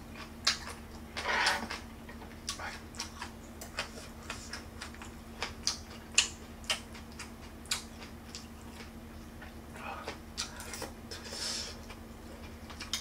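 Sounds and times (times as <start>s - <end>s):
person chewing with mouth clicks: 0.2s - 1.0s, 2.4s - 13.0s.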